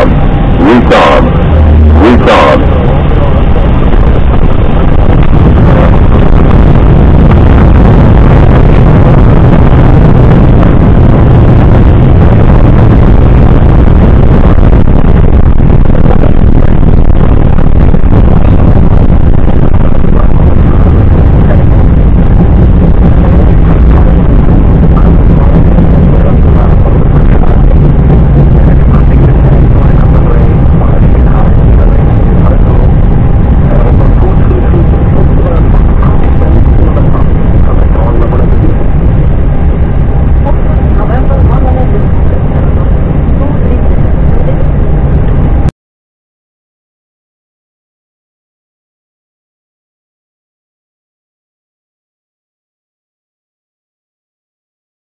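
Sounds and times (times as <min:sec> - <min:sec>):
airliner engines rumbling: 0:00.0 - 0:45.7
rushing air: 0:00.0 - 0:45.7.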